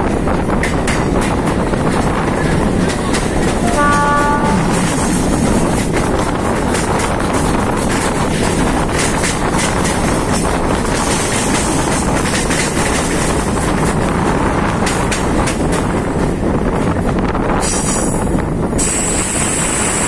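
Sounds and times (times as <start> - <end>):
train rumble and rail noise: 0.0 - 20.0.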